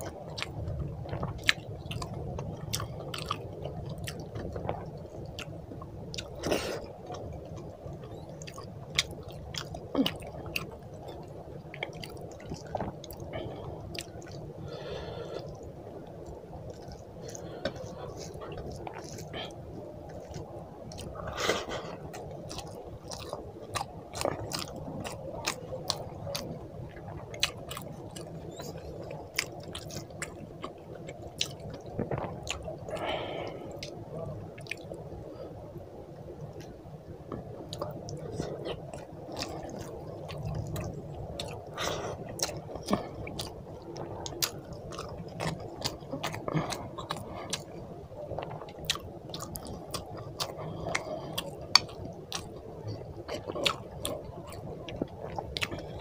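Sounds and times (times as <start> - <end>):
chewing with wet mouth clicks: 0.0 - 34.0, 34.6 - 35.0, 36.4 - 47.8, 48.4 - 56.0.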